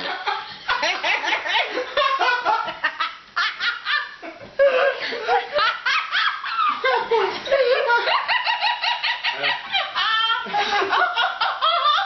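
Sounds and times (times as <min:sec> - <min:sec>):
people laughing hard: 0:00.0 - 0:12.0.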